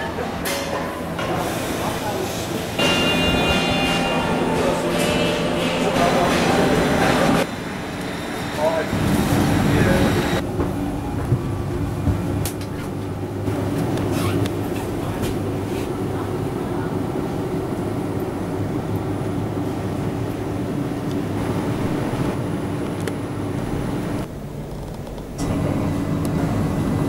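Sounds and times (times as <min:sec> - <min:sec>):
electric train humming: 0:00.0 - 0:27.0.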